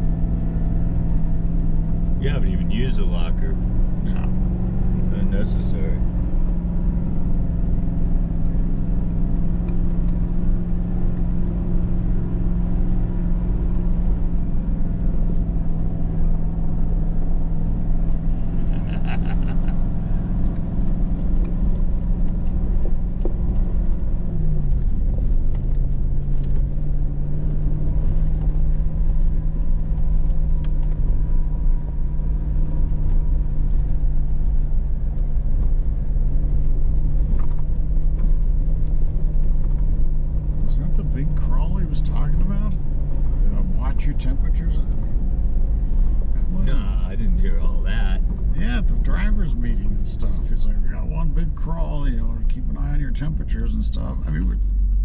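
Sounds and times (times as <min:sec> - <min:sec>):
engine drone inside cab: 0:00.0 - 0:55.0.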